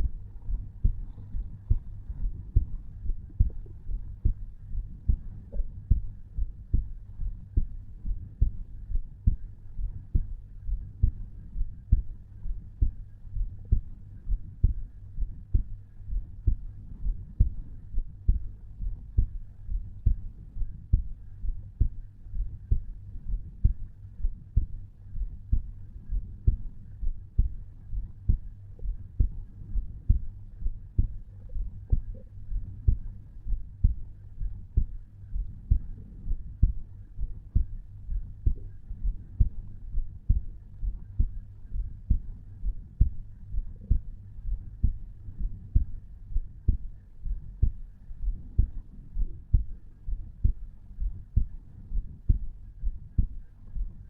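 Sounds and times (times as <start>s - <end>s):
heartbeat thumps: 0.0s - 54.0s.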